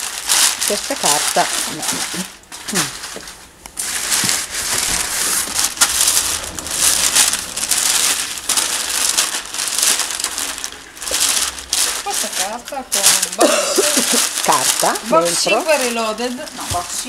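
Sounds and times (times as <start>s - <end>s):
packing paper crinkling: 0.0s - 17.0s.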